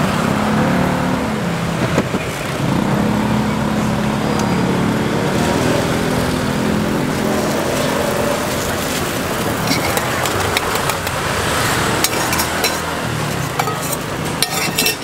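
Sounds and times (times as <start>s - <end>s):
motorbikes passing: 0.0s - 15.0s
street noise: 0.0s - 15.0s.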